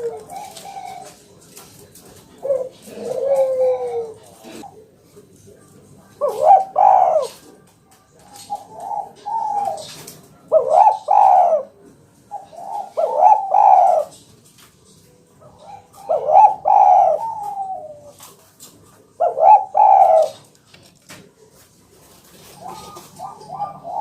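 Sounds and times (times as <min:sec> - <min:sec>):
dove cooing: 0:00.0 - 0:04.9, 0:06.0 - 0:14.2, 0:15.4 - 0:20.5, 0:22.1 - 0:24.0.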